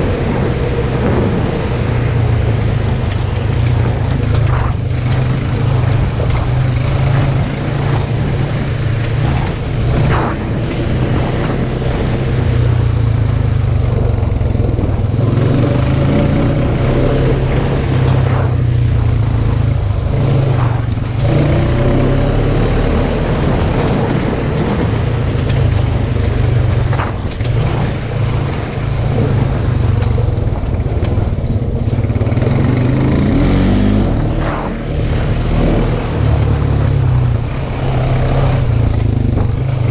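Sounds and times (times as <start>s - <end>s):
utv engine revving: 2.8s - 39.9s.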